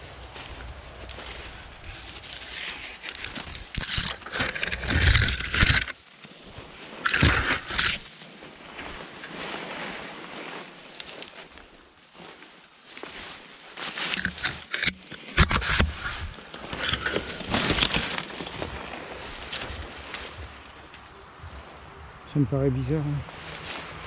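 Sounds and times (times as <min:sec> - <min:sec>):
rustling through undergrowth: 0:00.0 - 0:24.0.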